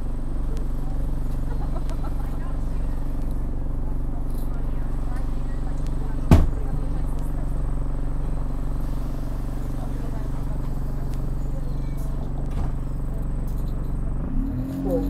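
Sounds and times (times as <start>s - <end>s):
diesel bus engine idling: 0.0s - 15.0s.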